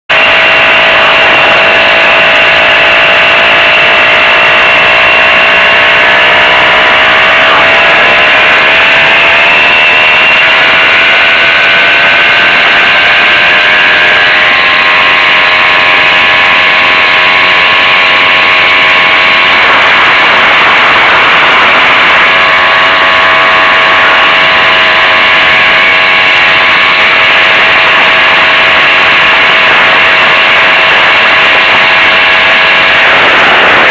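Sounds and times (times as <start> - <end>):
moped engine running: 0.1 - 33.9.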